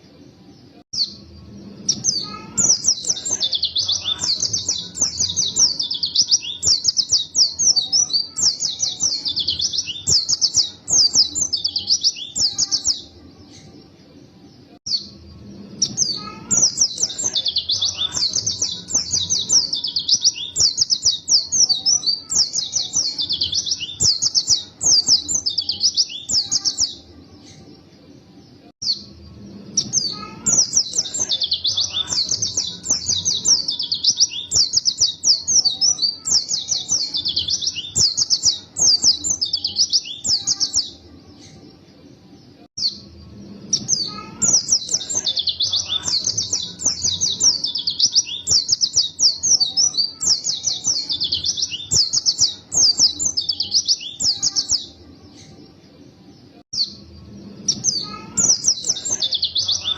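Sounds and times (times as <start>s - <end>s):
bird twittering song: 0.0s - 13.9s, 14.9s - 27.8s, 28.8s - 41.8s, 42.8s - 55.7s, 56.3s - 59.9s.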